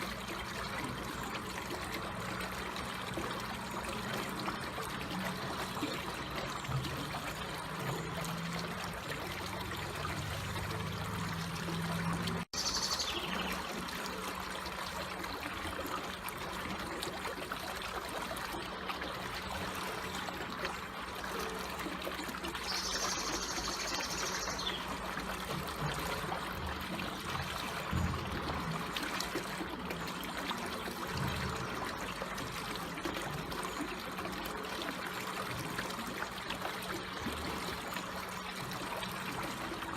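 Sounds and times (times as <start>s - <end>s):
water trickling in a stream: 0.0s - 39.9s.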